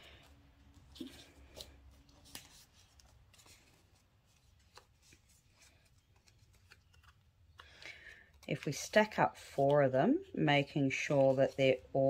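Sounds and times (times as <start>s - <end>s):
paper rustling: 0.0s - 9.9s, 10.7s - 12.0s.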